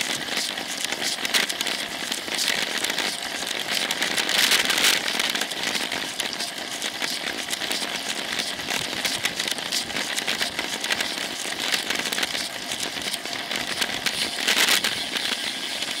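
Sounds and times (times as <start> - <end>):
bicycle rattling and clicking: 0.0 - 16.0.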